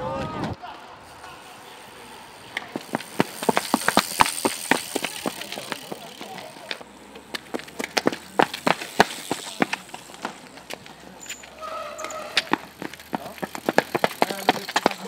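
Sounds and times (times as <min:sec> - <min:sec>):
bikes knocking: 0:00.6 - 0:15.0
cycling shoes clicking on brick: 0:02.5 - 0:15.0.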